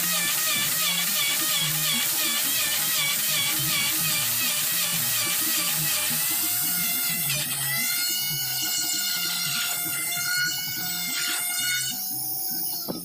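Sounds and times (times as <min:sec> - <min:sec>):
electric router whining: 0:00.0 - 0:13.0.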